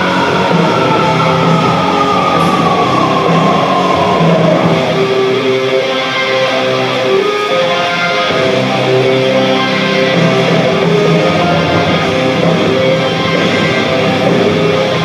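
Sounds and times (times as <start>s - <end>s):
distorted electric guitar sliding down: 0.0s - 15.0s
loud rock music: 0.0s - 15.0s.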